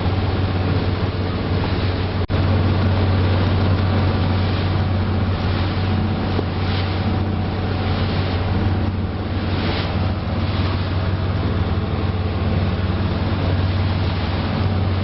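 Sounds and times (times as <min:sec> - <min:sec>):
ferry engine humming: 0:00.0 - 0:15.0
rushing wind: 0:00.0 - 0:15.0
water rushing: 0:00.0 - 0:15.0.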